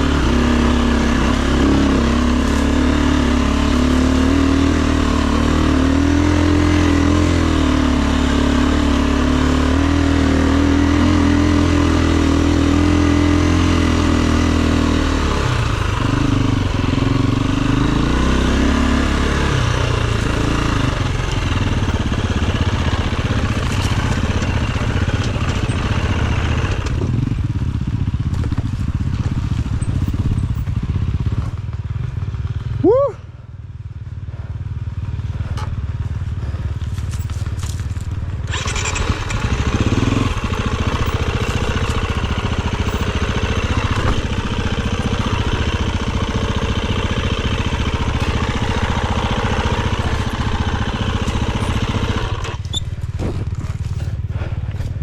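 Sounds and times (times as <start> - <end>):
dirt bike engine running: 0.0 - 55.0
wind and road noise: 0.0 - 55.0.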